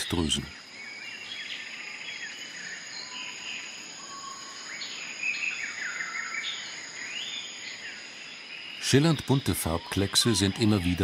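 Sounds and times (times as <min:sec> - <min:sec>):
birds chirping and twittering: 0:00.0 - 0:11.0
insects with thin high tones: 0:00.0 - 0:11.0.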